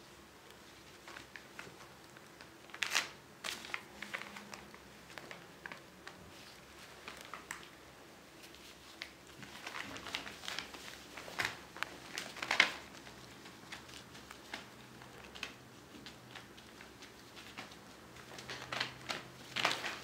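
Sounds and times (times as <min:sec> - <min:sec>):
plastic sheeting crinkling: 0:00.0 - 0:20.0.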